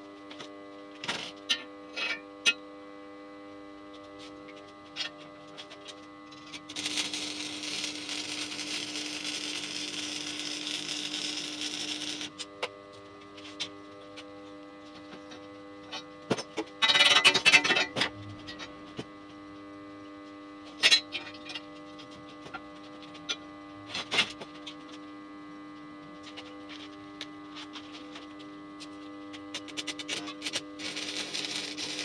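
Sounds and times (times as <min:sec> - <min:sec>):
welder transformer hum: 0:00.0 - 0:32.0.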